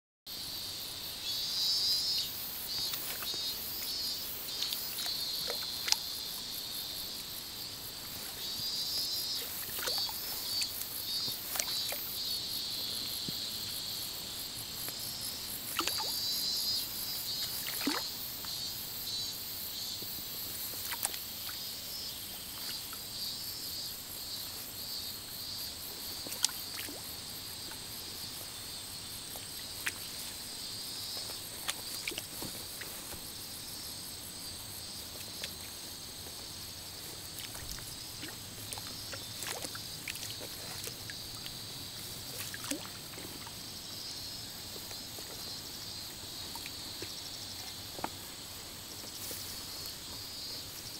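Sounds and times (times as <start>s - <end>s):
insects chirping: 0.3s - 50.9s.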